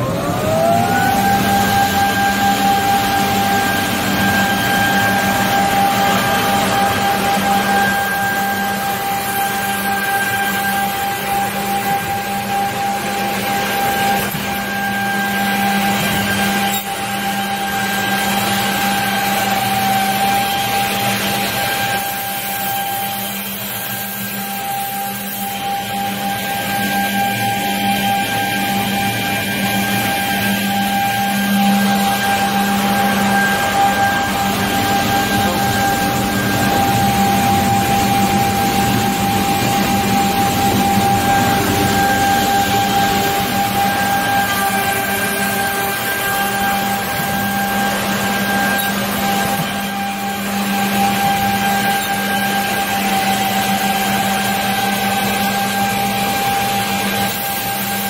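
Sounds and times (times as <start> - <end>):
machine humming with high whine: 0.0 - 58.0.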